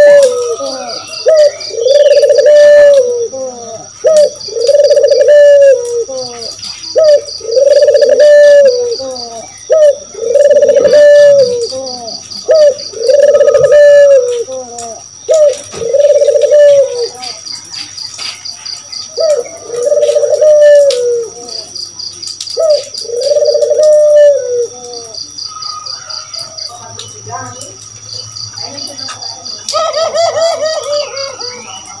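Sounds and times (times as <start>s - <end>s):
doves cooing: 0.0s - 21.8s, 22.5s - 26.8s, 28.7s - 32.0s
insects chirping in trills: 0.0s - 32.0s.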